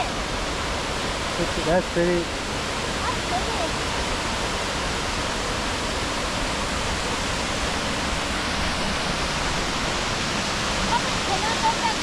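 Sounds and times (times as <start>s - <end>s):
waterfall crashing: 0.0s - 12.0s.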